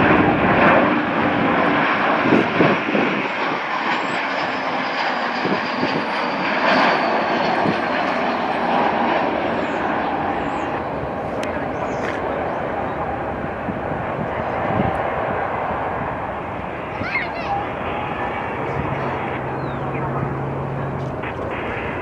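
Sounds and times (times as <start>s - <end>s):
high jet engine whine: 0.0s - 22.0s
jet airliner passing: 0.0s - 22.0s.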